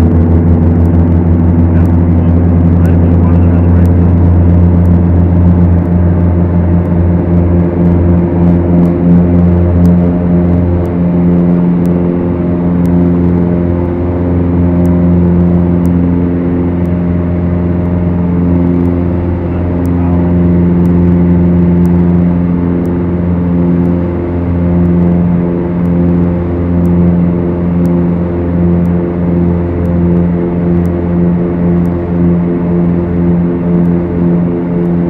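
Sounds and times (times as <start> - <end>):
propeller aircraft engines droning: 0.0 - 35.0.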